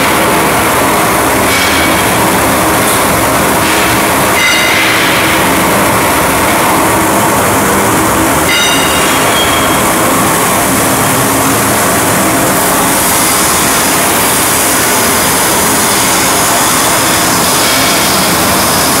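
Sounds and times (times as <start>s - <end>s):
machinery rushing noise: 0.0s - 19.0s.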